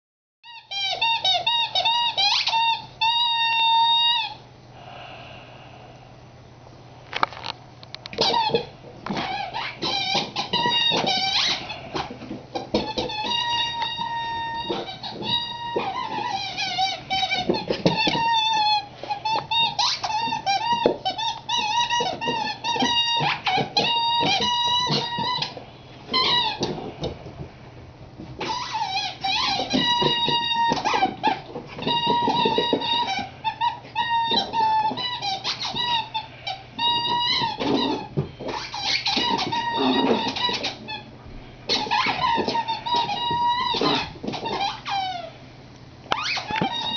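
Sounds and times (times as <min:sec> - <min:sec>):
rubber squeaky toy squeaking: 0:00.4 - 0:04.4, 0:08.1 - 0:27.4, 0:28.4 - 0:41.1, 0:41.7 - 0:45.4, 0:46.1 - 0:46.9.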